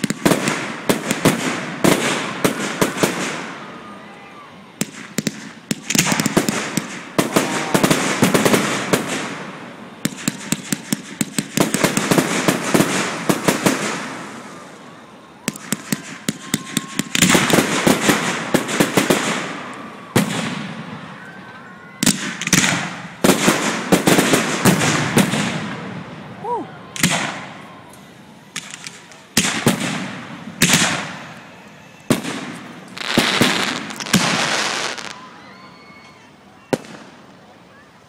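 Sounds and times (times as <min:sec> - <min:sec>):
fireworks bangs: 0:00.0 - 0:04.1, 0:04.7 - 0:37.5
fireworks crackling: 0:00.0 - 0:38.0.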